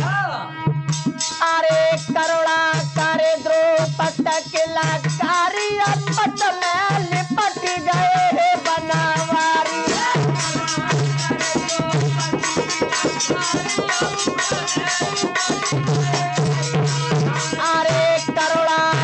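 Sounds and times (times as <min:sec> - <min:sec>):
harmonium melody: 0:00.1 - 0:19.0
fast hand drum rhythm: 0:00.9 - 0:19.0.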